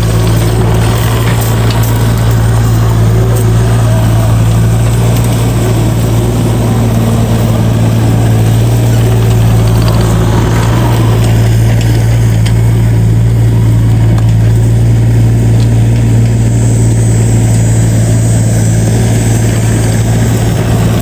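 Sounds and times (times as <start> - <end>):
heavy engine idling: 0.0 - 21.0.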